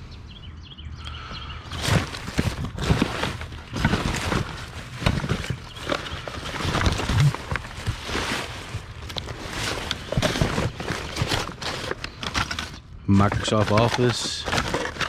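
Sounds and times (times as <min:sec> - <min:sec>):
rummaging through cardboard boxes: 0:01.2 - 0:15.0.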